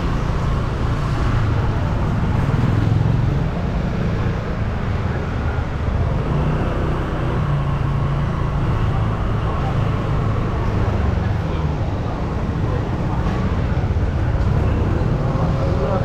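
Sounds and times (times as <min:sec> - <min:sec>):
road noise: 0:00.0 - 0:16.0
vehicle engines running: 0:00.0 - 0:16.0.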